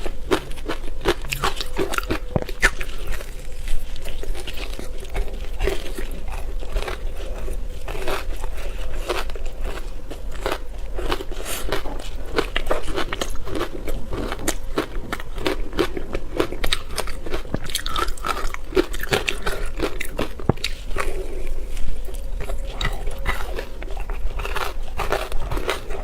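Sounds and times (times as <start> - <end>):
ice crunching between teeth: 0.0 - 26.0.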